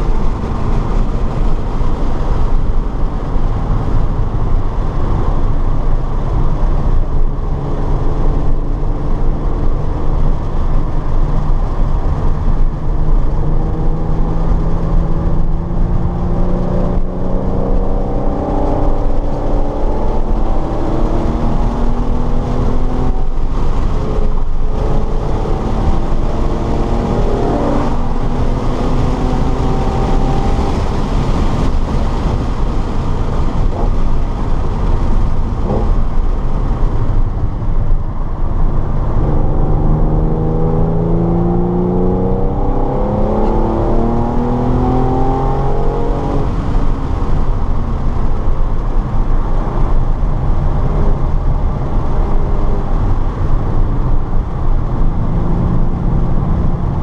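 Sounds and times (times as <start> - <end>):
race car engine revving: 0.0 - 36.9, 37.5 - 57.0
road and wind rumble: 0.0 - 57.0.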